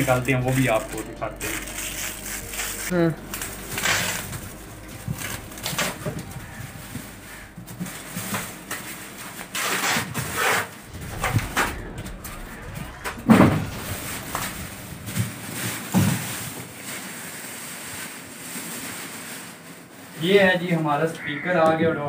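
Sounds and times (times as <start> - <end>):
plastic wrapping crinkling: 0.0 - 10.8, 13.6 - 20.8.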